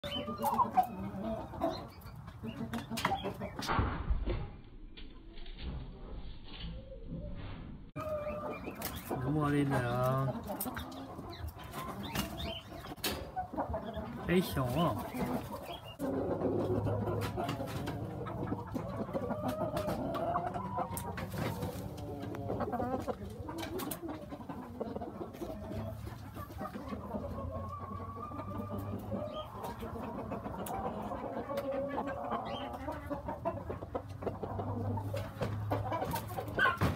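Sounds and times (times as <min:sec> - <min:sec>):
rooster clucking: 0:00.0 - 0:03.7, 0:08.0 - 0:36.9.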